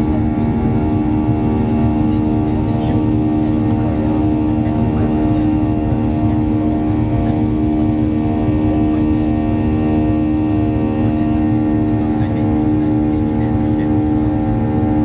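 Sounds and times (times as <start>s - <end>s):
jet engines droning in cabin: 0.0s - 15.0s.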